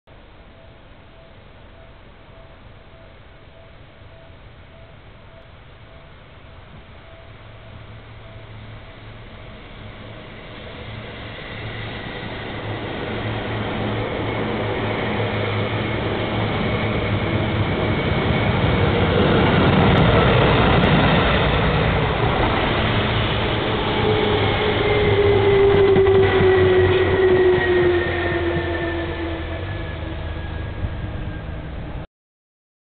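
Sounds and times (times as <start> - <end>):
electric train rumbling past: 0.2 - 32.0.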